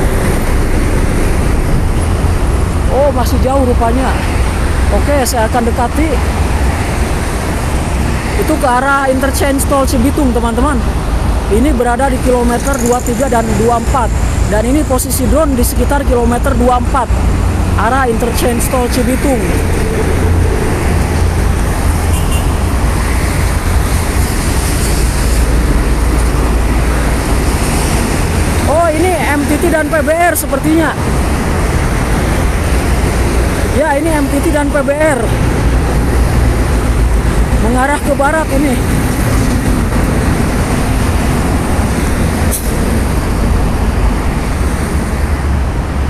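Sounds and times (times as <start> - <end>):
traffic rumble: 0.0 - 46.0.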